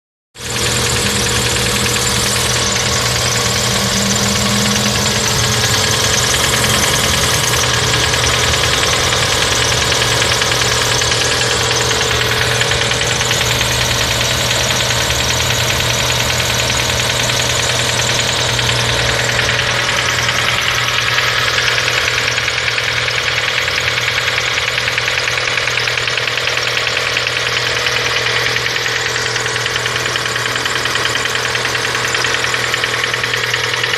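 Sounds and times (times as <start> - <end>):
engine running with fast ticking: 0.4 - 33.9.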